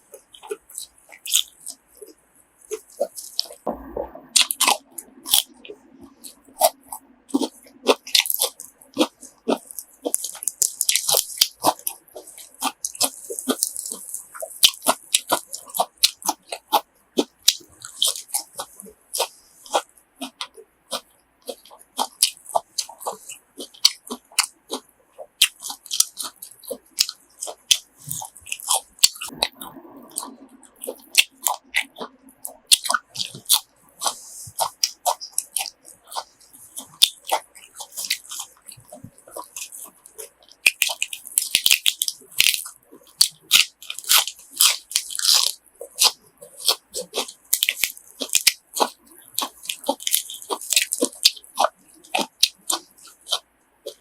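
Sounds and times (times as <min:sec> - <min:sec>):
teeth clicks: 0:00.0 - 0:54.0
wet crunchy chewing: 0:00.0 - 0:54.0.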